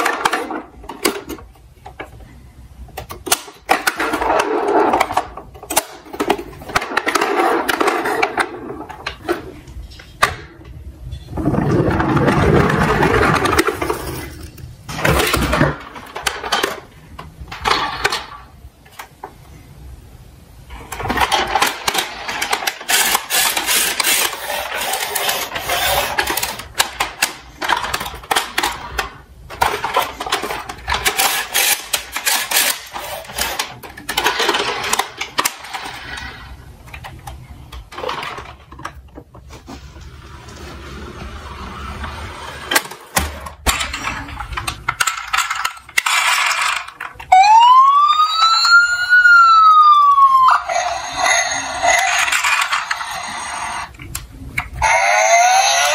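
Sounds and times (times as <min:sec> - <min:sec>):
toy cars clattering: 0:00.0 - 0:02.2, 0:02.9 - 0:19.4, 0:20.7 - 0:55.9.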